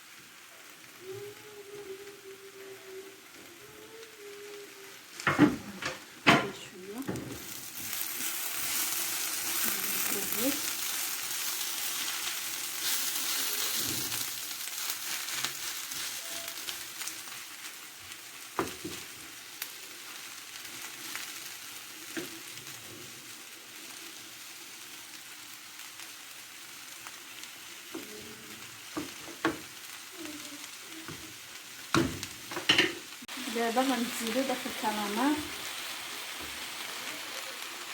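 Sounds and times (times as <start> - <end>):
seafood sizzling in a pan: 0.0 - 37.9.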